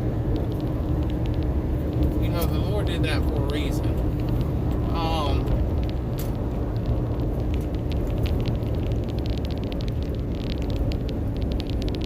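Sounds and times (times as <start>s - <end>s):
light ticks and crackles: 0.0s - 12.0s
low rumble: 0.0s - 12.0s.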